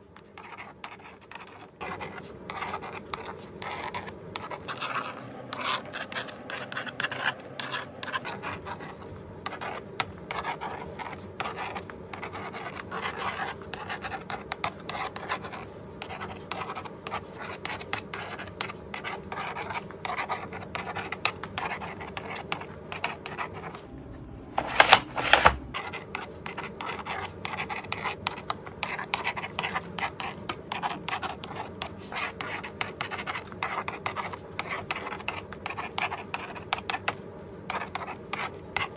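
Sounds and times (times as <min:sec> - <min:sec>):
magnetic pen scratching on board: 0:00.2 - 0:23.8, 0:24.6 - 0:38.9.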